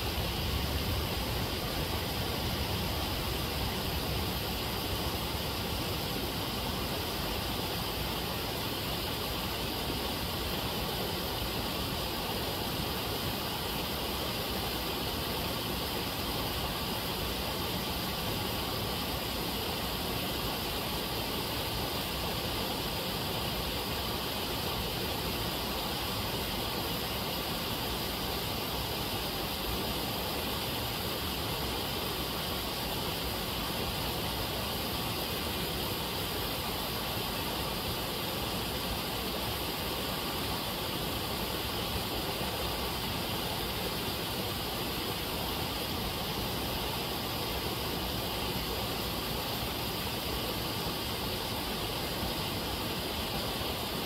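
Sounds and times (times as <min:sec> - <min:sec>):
waterfall rushing into pool: 0:00.0 - 0:54.0.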